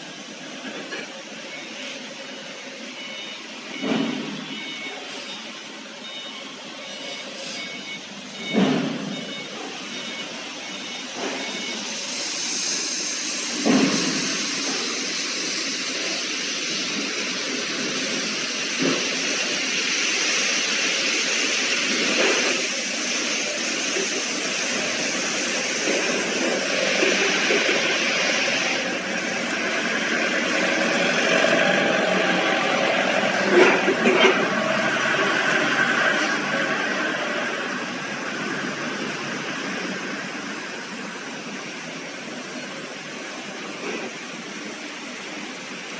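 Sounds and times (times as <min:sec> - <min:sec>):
washing machine rushing noise: 0:00.0 - 0:45.9.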